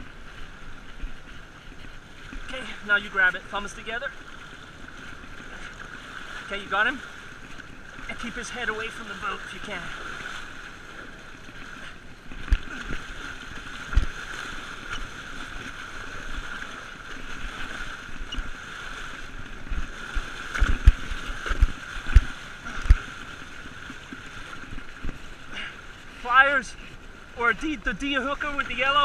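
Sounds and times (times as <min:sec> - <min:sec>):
water rushing along a boat: 0:00.0 - 0:29.0.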